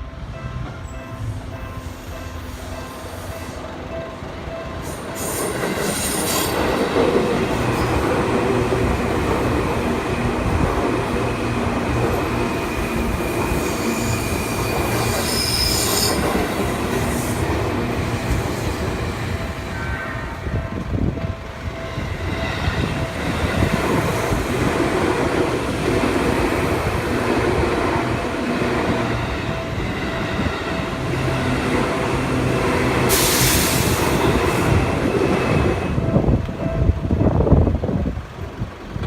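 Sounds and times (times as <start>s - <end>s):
electric commuter train passing: 0.0s - 39.0s.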